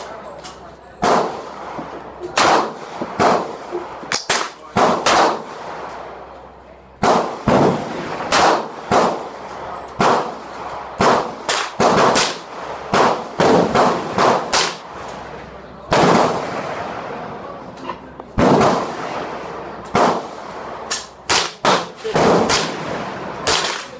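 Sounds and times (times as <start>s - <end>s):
gunshots with echo: 1.0s - 6.2s, 7.0s - 15.0s, 15.8s - 17.6s, 18.3s - 23.9s.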